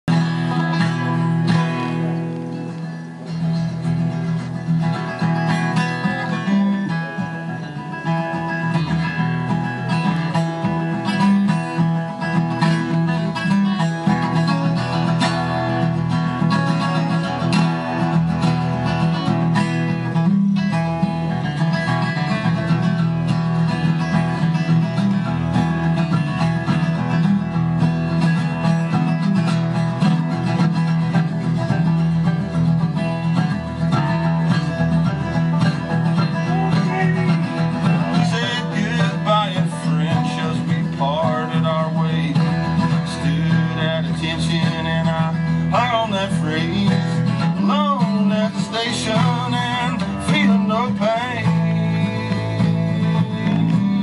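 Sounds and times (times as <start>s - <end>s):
acoustic guitar picking: 0.0s - 54.0s
banjo: 0.0s - 54.0s
upright bass line: 0.0s - 54.0s.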